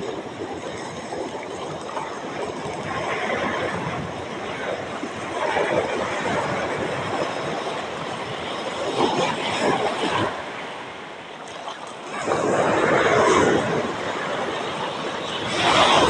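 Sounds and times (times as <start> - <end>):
sea surf breaking on shore: 0.0 - 16.0.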